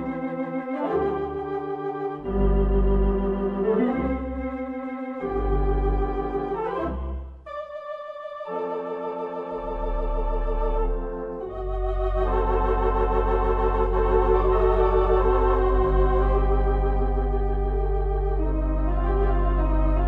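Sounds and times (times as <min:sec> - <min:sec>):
organ chords with vibrato: 0:00.0 - 0:20.0
deep organ bass note: 0:00.8 - 0:08.0, 0:09.6 - 0:20.0.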